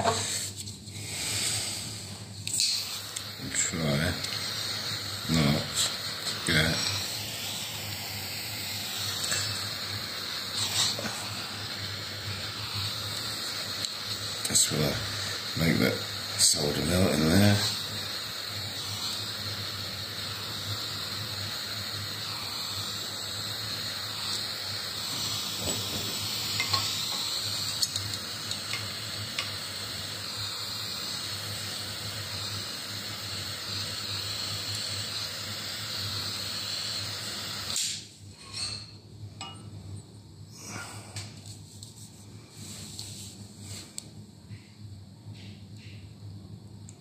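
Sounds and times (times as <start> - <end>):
butane torch hissing: 0.0 - 47.0.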